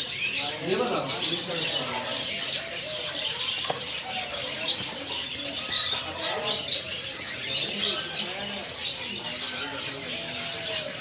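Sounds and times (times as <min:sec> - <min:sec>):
birds chirping: 0:00.0 - 0:11.0
pigeons cooing: 0:00.7 - 0:11.0.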